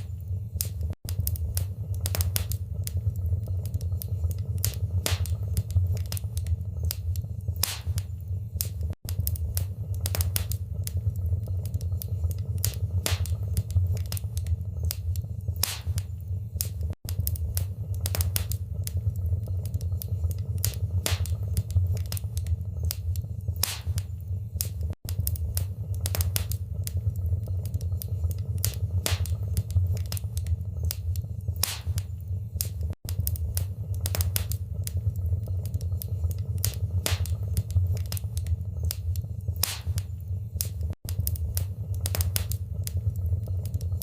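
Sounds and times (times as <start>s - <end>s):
low rumble of flames: 0.0s - 44.0s
wood fire crackling: 0.0s - 44.0s.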